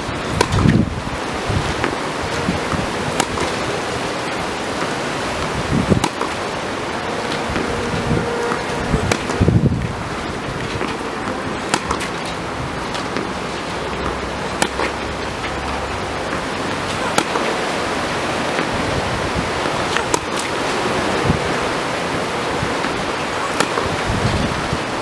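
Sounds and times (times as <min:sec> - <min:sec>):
wind on microphone: 0:00.0 - 0:25.0
tennis ball struck by rackets: 0:00.4 - 0:00.8, 0:01.7 - 0:06.6, 0:07.2 - 0:20.6, 0:22.7 - 0:24.0.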